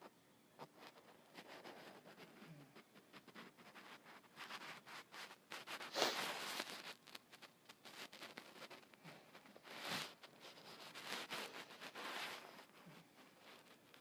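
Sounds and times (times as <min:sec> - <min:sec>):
small clicks and rustles: 0:00.6 - 0:14.0.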